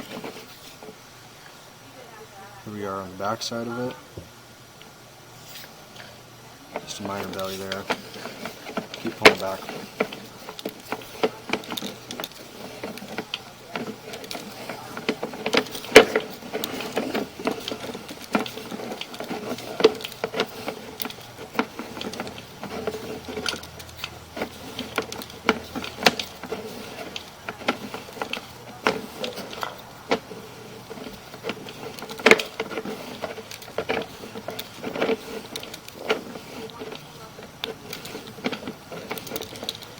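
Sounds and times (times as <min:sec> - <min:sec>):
cable clicks and knocks: 0:06.7 - 0:39.9.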